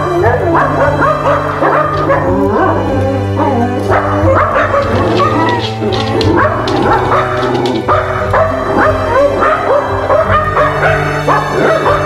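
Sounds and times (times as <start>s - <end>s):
background music: 0.0s - 12.0s
dogs barking and yipping: 0.0s - 12.0s.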